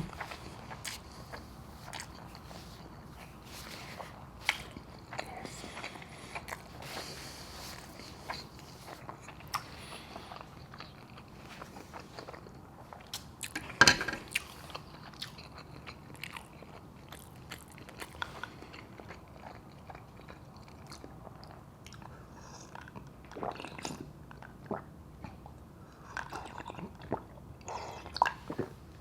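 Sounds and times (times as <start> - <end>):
person chewing: 0.0 - 24.9.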